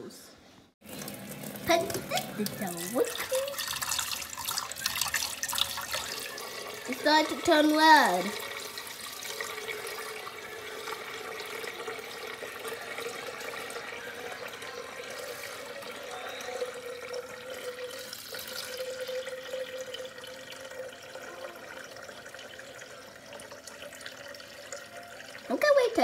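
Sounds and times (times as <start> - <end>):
tap water filling a pitcher: 0.8 - 26.0.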